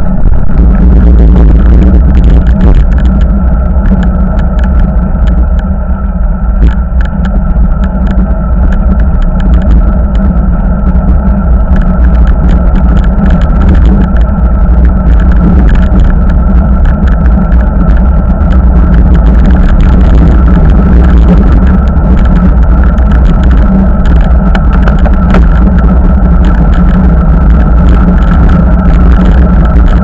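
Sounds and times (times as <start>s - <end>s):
clicks and rattles from road: 0.0s - 30.0s
thin steady tone: 0.0s - 30.0s
wind rumble on microphone: 0.0s - 30.0s.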